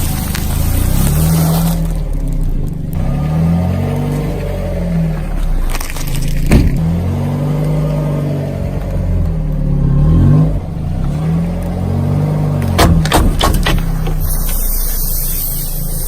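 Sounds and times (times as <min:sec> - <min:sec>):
car engine revving: 0:00.0 - 0:16.0
sharp crunching cracks: 0:00.0 - 0:16.0.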